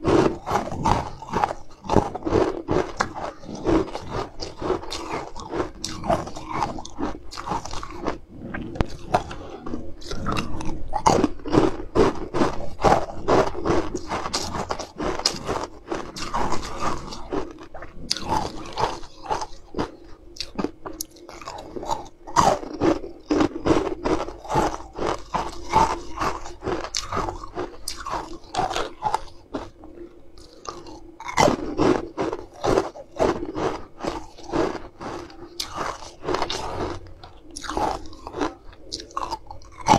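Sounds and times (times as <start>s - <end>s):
chewing ice cubes crunching: 0.0s - 39.9s.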